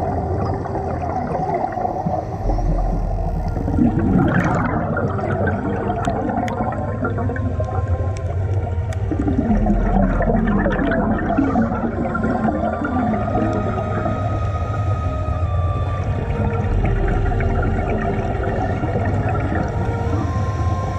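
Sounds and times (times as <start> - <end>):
underwater bubbling and gurgling: 0.0 - 20.9.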